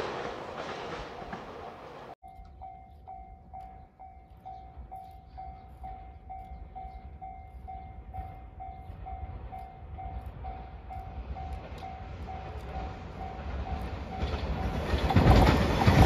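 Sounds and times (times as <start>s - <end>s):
approaching train rumble: 0.0s - 16.0s
level crossing alarm ringing: 2.2s - 15.1s.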